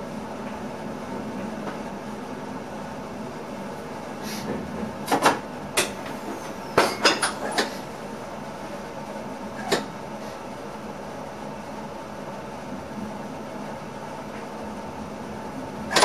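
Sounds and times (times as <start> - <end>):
train cab running noise: 0.0 - 16.0.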